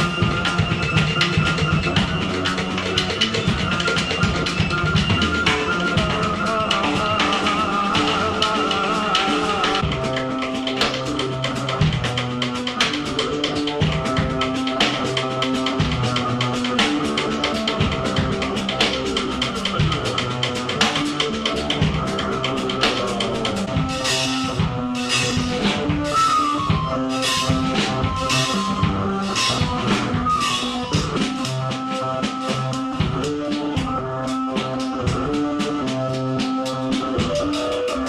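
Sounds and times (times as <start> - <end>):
busy drum beat: 0.0 - 38.0
electronic keyboard notes: 0.0 - 38.0.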